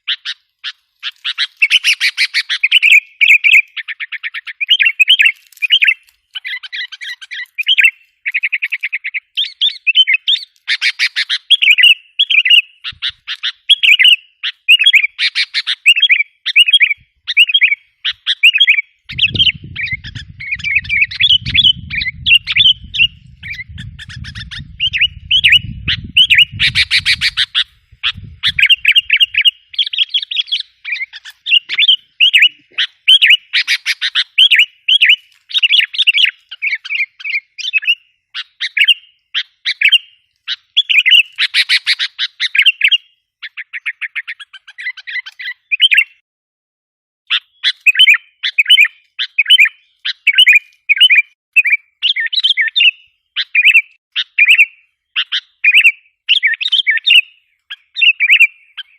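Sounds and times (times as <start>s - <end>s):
bulbuls chattering and whistling: 0.0s - 46.2s, 47.3s - 58.9s.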